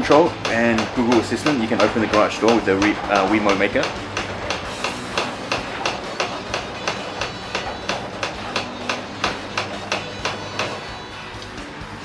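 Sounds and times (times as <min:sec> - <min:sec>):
regular mechanical clicking: 0:00.0 - 0:11.7
garage door motor hum: 0:00.0 - 0:12.0.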